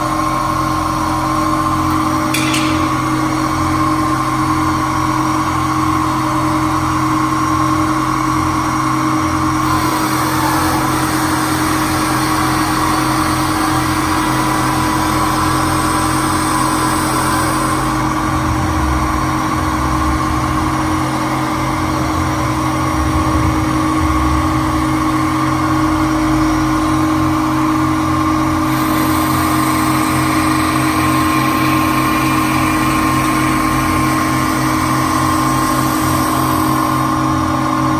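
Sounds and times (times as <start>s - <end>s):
electric motor humming and whining: 0.0s - 37.9s.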